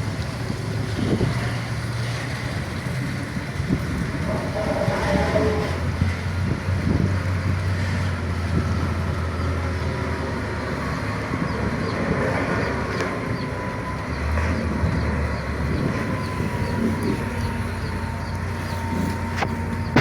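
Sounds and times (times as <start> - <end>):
diesel engines rumbling: 0.0 - 20.0.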